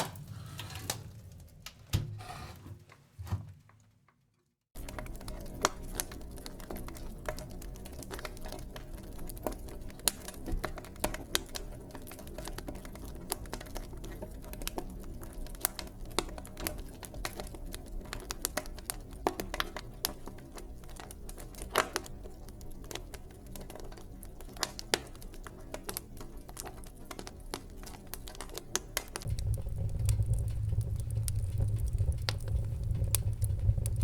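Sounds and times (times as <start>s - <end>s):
fireplace fire crackling: 4.8s - 34.0s
low rumble of flames: 4.8s - 34.0s.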